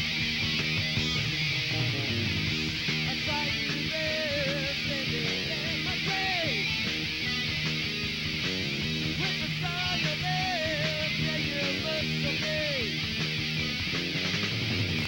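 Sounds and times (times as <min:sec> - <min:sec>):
lead electric guitar melody: 0:00.0 - 0:15.0
rock band playing: 0:00.0 - 0:15.0.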